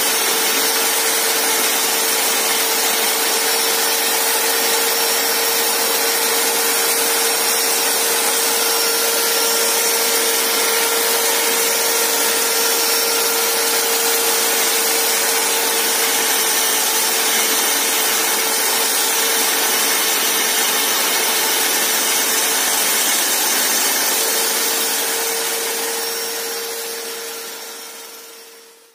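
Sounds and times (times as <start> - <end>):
core drill cutting concrete: 0.0 - 28.9.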